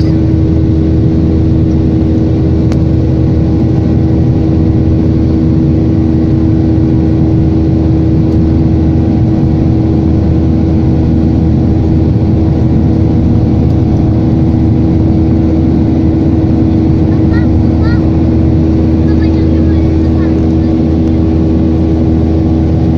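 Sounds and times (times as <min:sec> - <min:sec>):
jet engine drone in cabin: 0:00.0 - 0:22.9.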